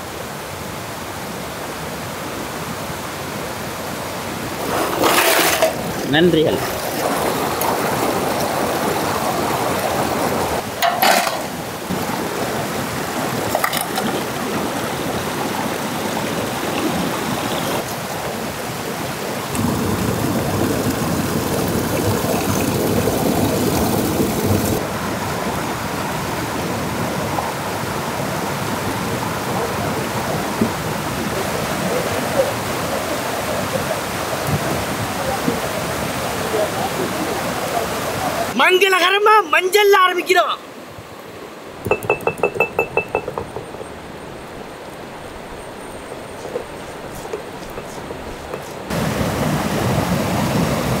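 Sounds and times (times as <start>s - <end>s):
water rushing over rocks: 0.0s - 51.0s.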